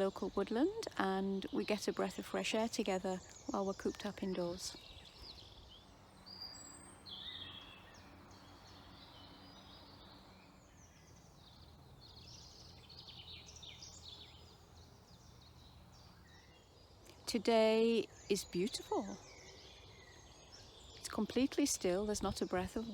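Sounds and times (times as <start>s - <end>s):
birds chirping and trilling: 0.0s - 22.9s.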